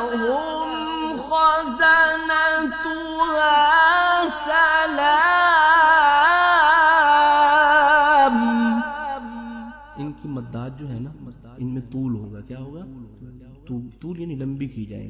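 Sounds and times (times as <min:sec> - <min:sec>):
person reciting melodically: 0:00.0 - 0:15.0.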